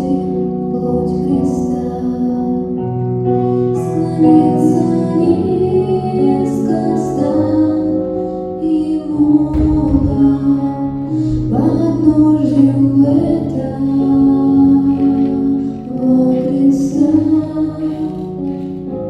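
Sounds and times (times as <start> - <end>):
slow gentle music with held chords: 0.0 - 19.0.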